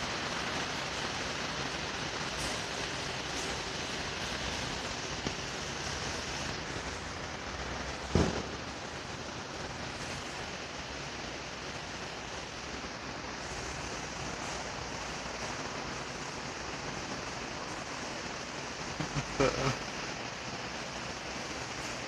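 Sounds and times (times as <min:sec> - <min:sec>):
ceiling fan rush of air: 0:00.0 - 0:22.0.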